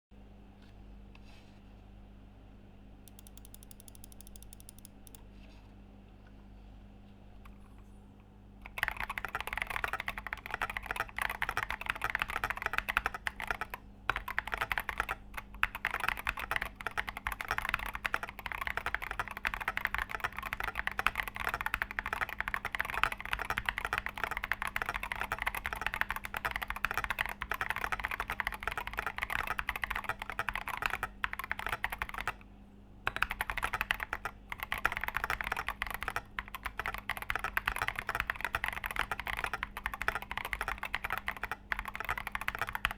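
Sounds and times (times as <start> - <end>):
mechanical keyboard typing: 3.1 - 5.2, 8.6 - 32.4, 33.1 - 42.9.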